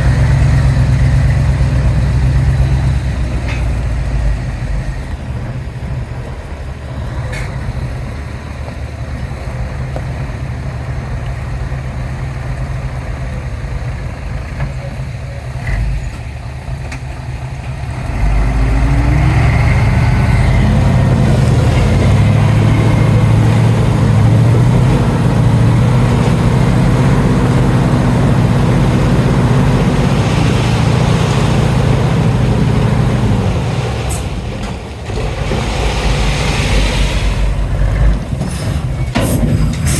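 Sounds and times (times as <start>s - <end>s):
heavy diesel engine idling and revving: 0.0s - 39.9s.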